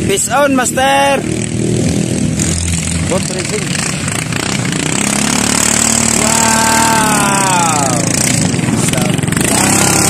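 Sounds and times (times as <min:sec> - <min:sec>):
racing boat engine at high revs: 0:00.0 - 0:10.0.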